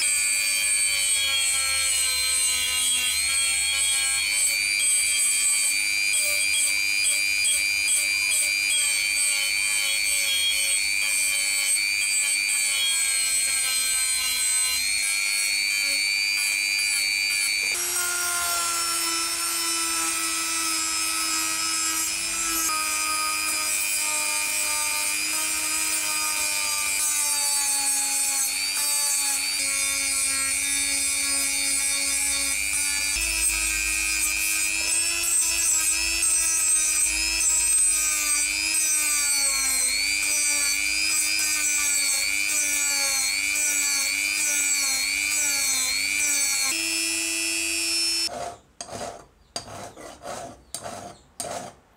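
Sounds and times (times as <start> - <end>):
rotary tool motor whine: 0.0 - 48.3.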